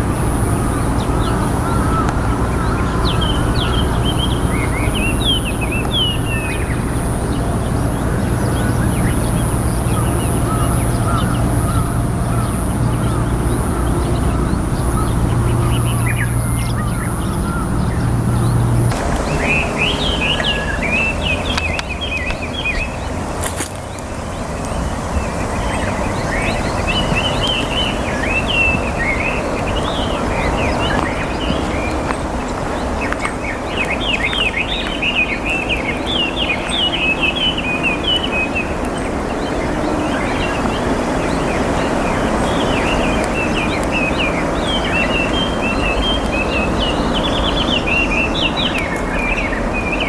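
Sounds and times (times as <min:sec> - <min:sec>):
low background rumble: 0:00.0 - 0:50.0
songbird chirping: 0:00.0 - 0:50.0.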